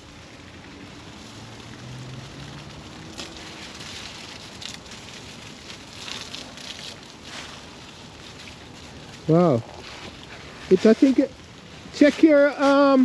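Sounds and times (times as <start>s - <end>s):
fire hissing and crackling: 0.0s - 13.0s.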